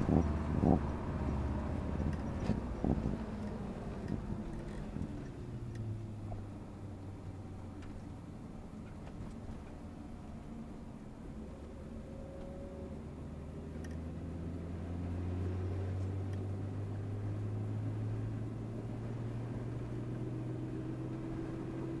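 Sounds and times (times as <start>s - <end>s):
car engine drone inside cabin: 0.0s - 22.0s.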